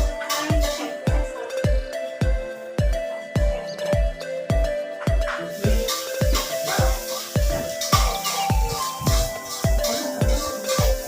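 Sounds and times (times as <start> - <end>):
deep kick drum beating: 0.0 - 11.0
held synth tones: 0.0 - 11.0.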